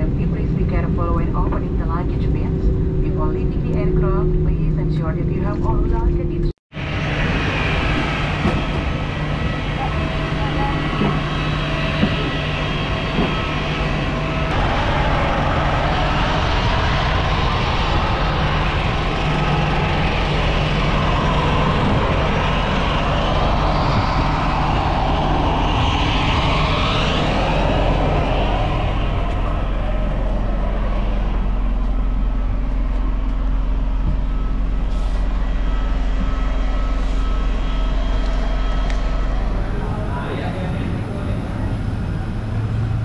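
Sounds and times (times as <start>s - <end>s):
aircraft engines hissing: 0.0s - 43.0s.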